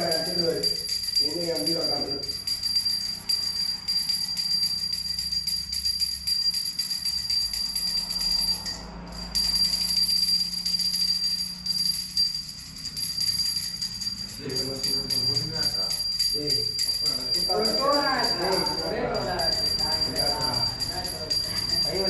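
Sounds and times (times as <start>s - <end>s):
brass hand bell ringing rapidly: 0.0s - 22.0s.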